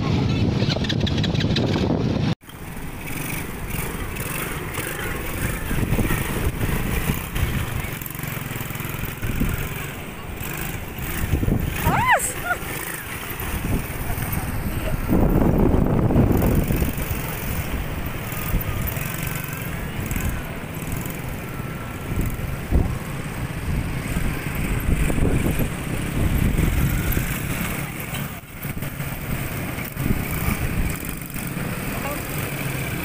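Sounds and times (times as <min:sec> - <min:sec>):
quad bike engine passing: 0:00.0 - 0:33.0.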